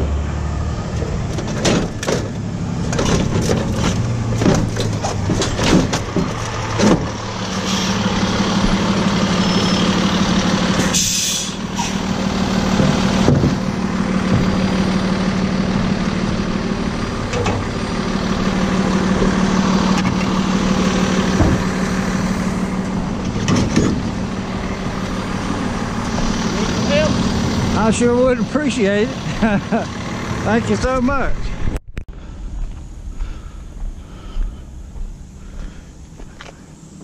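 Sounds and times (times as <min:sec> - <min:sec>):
truck engine humming: 0:00.0 - 0:37.0.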